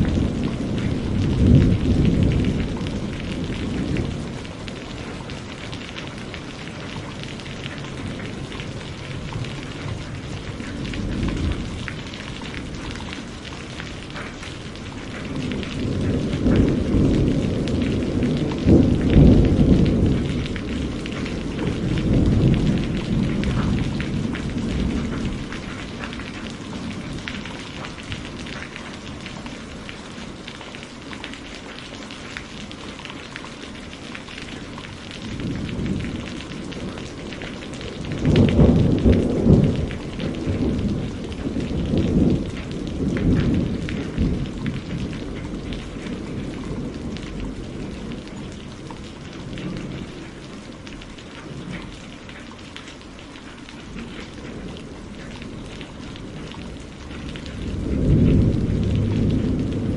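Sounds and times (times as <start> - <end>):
thunder rumbling: 0.0 - 51.9, 53.8 - 59.9
rain pattering: 0.0 - 59.9.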